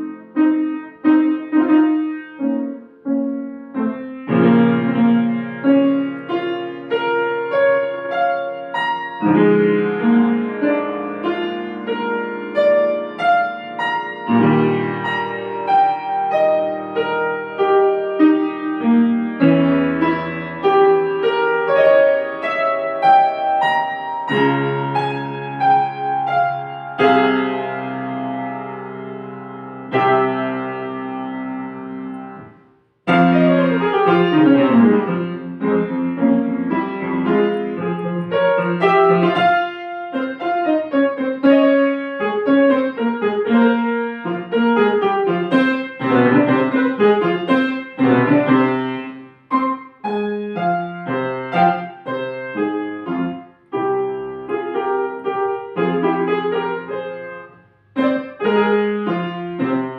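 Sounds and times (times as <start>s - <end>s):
solo classical piano: 0.0s - 59.9s.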